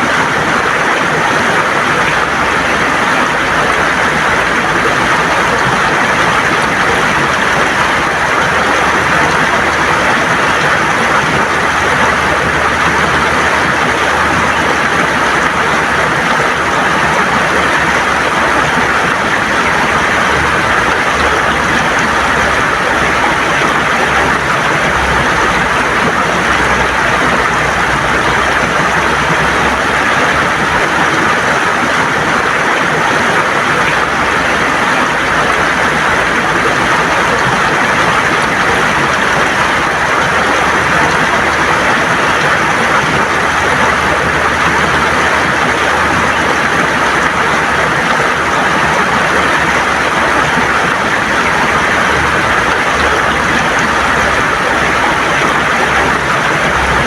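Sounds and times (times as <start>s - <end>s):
river water rushing over stones: 0.0s - 57.0s.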